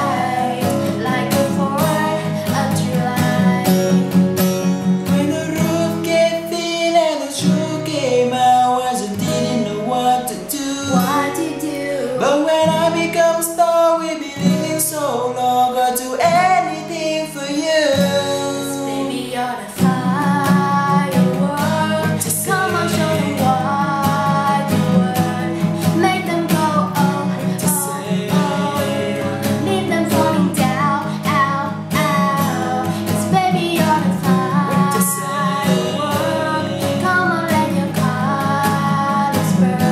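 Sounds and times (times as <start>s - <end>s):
person singing pop melody: 0.0s - 39.9s
strummed acoustic guitar: 0.0s - 39.9s.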